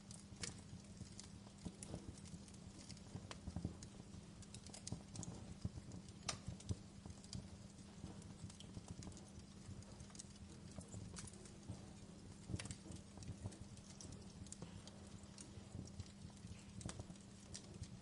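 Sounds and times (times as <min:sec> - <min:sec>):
low steady hum: 0:00.0 - 0:18.0
wood fire crackling: 0:00.0 - 0:18.0.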